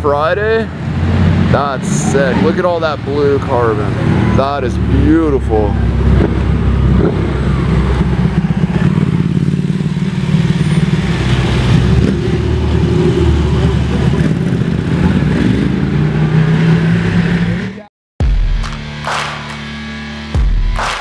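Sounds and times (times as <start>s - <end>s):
car engine low revs: 0.6s - 17.8s.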